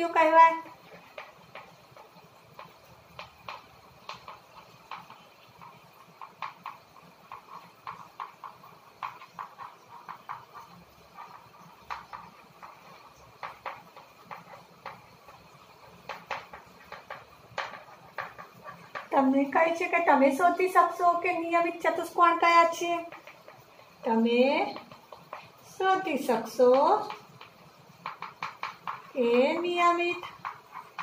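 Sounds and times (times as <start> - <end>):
chalk tapping and scratching on board: 0.0 - 31.0.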